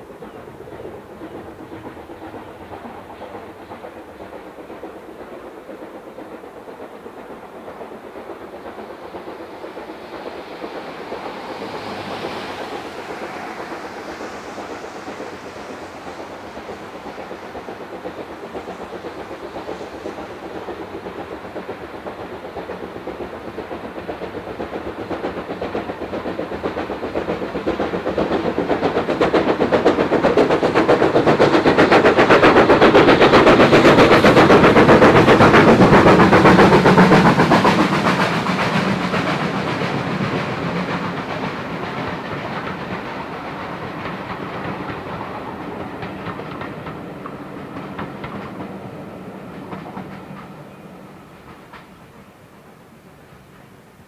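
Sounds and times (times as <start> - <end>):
steam locomotive exhaust beats: 0.0 - 54.0
train coaches rolling past: 0.0 - 54.0.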